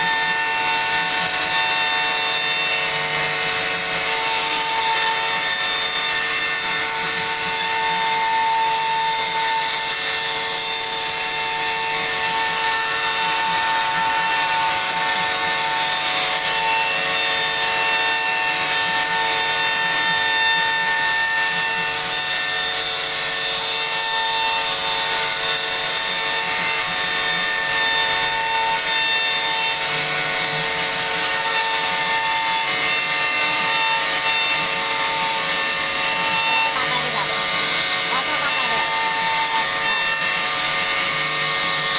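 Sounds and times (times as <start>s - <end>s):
cutter rasping wood: 0.0s - 41.9s
router spindle whine: 0.0s - 41.9s.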